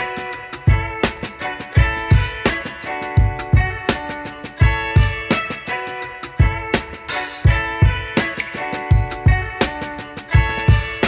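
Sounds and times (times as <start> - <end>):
plucked notes music: 0.0 - 11.0
kick-drum beat: 0.6 - 5.5, 6.2 - 11.0.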